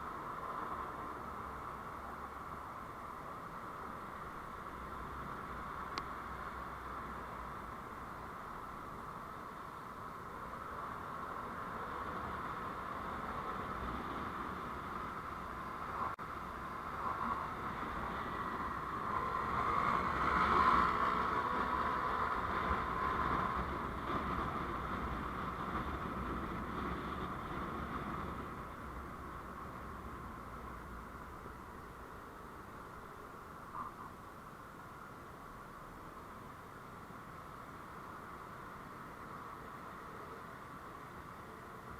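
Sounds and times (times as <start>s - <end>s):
vehicle and road noise: 0.0s - 41.9s.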